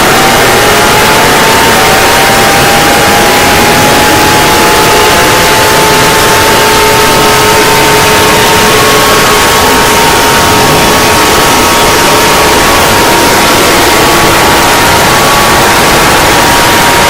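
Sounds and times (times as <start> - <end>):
harsh static noise: 0.0 - 17.0.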